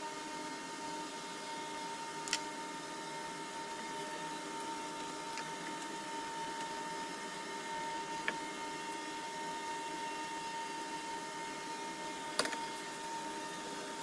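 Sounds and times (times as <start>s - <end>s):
high constant whine: 0.0s - 14.0s.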